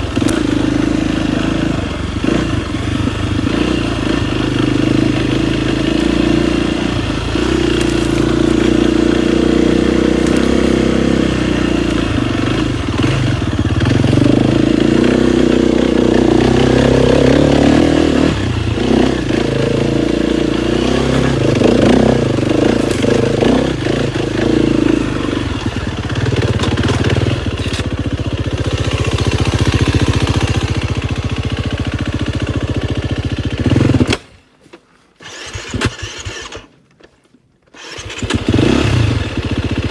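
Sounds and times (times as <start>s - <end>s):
dirt bike engine revving: 0.0s - 34.4s, 35.2s - 36.7s, 37.8s - 39.9s.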